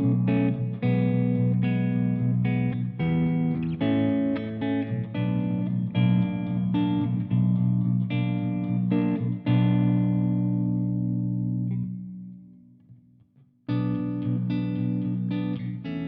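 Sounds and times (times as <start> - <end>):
electric guitar chords: 0.0 - 13.0, 13.7 - 16.0.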